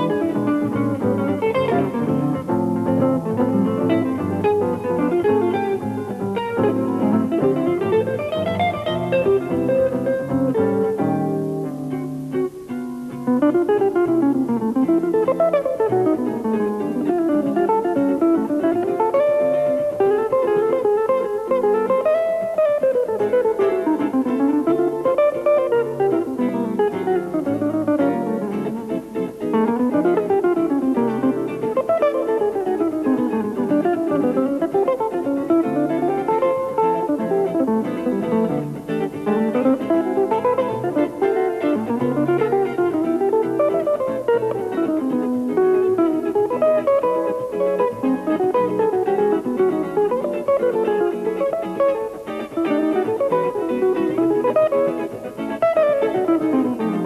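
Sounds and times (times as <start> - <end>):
electric guitars playing jazz ballad: 0.0 - 57.0.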